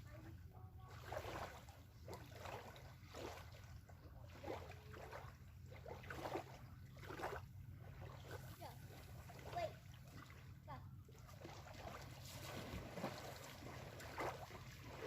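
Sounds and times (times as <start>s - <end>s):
faint low rumble: 0.0s - 15.0s
small waves lapping on sand: 0.0s - 15.0s.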